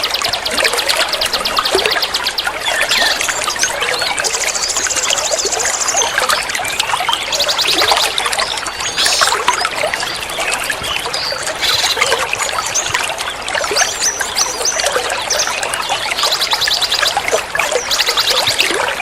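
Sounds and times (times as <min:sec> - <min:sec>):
small birds chirping and trilling: 0:00.0 - 0:19.0
trickling water: 0:00.0 - 0:19.0.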